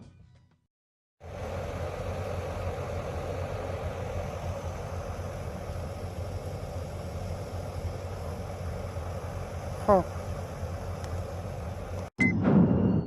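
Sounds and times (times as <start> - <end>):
car engine hum: 1.2 - 12.1
road noise: 1.2 - 12.1.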